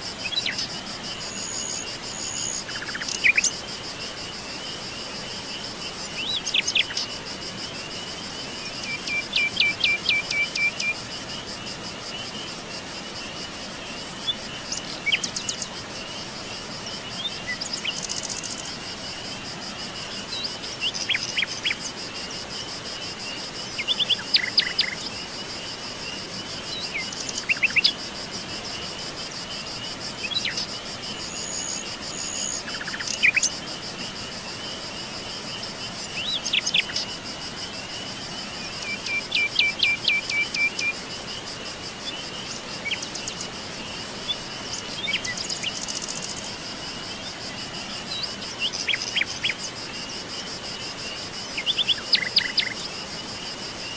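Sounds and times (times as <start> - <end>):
high insect trill: 0.0 - 53.9.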